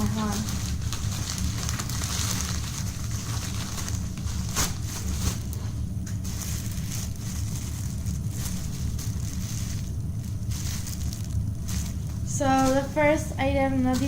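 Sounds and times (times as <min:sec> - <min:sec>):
packaging rustling and crinkling: 0:00.0 - 0:14.0
steady low hum: 0:00.0 - 0:14.0.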